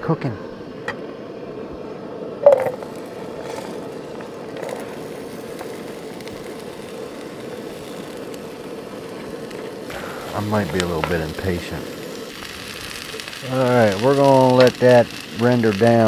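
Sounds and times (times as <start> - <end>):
camp stove burner hissing: 0.0 - 16.0.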